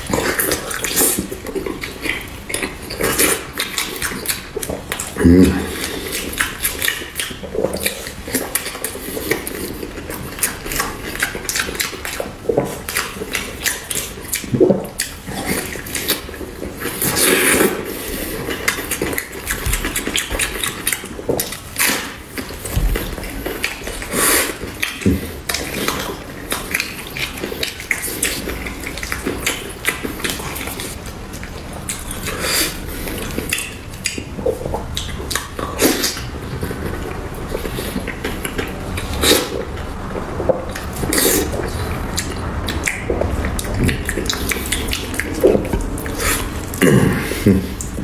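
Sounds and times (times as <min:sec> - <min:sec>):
wet chewing and lip-smacking: 0:00.0 - 0:48.0.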